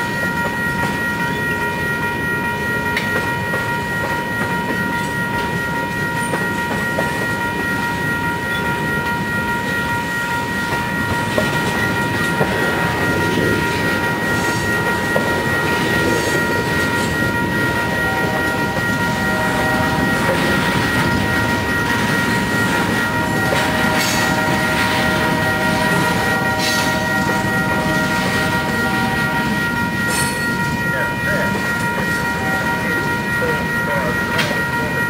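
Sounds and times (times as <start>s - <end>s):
high ringing tone: 0.0s - 35.0s
lower ringing tone: 0.0s - 35.0s
train wheels rumbling on rail: 0.0s - 35.0s.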